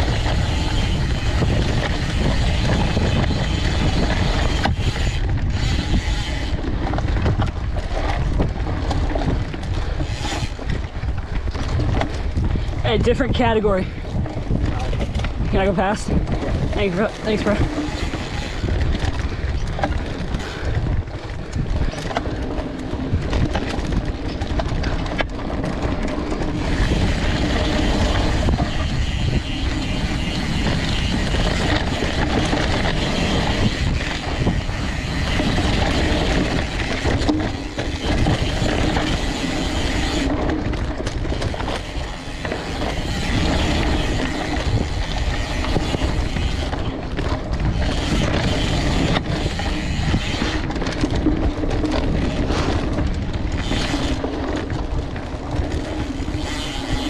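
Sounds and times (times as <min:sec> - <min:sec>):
bike chain and frame rattling: 0:00.0 - 0:57.0
bike tyres rumbling on dirt: 0:00.0 - 0:57.0.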